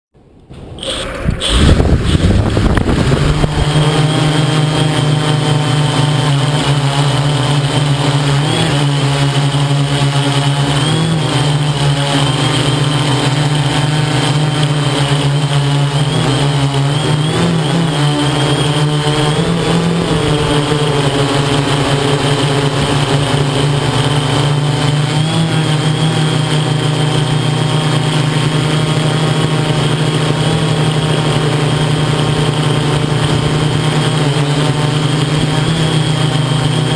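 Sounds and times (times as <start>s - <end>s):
drone motors and propellers humming: 0.2s - 36.9s.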